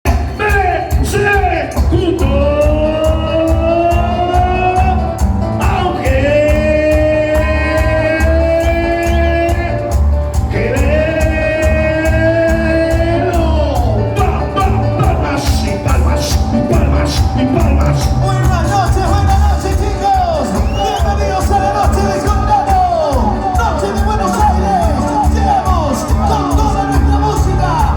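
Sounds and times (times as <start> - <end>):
steady drum beat: 0.0 - 27.9.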